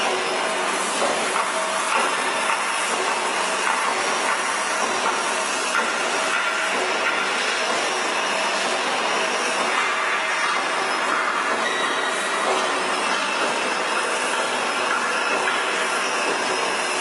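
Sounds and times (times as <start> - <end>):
lathe machining metal: 0.0 - 17.0.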